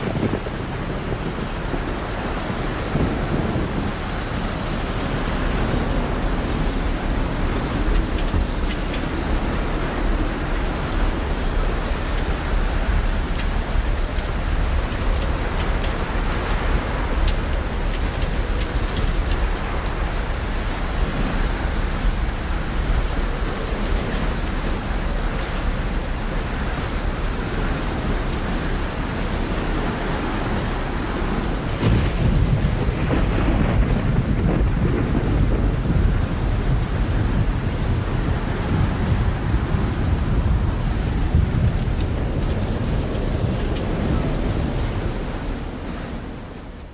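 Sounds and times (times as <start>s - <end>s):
steady rain falling: 0.0s - 46.9s
thunder rumbling: 0.0s - 46.9s.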